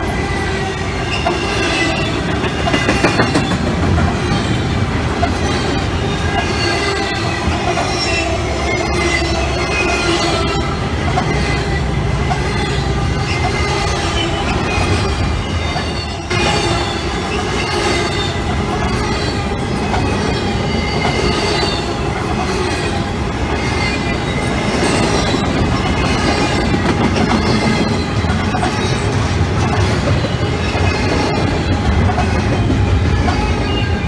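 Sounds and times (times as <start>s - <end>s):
steel wheels rumbling on rail: 0.0s - 34.0s
high wheel squeal: 4.2s - 34.0s.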